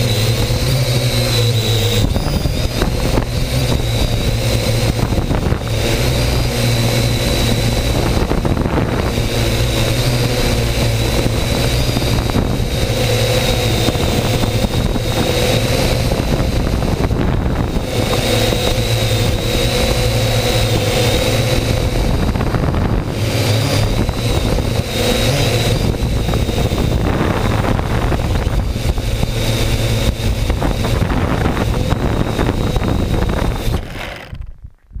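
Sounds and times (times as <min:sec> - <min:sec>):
drone propellers buzzing: 0:00.0 - 0:35.0
wind on microphone: 0:00.0 - 0:35.0.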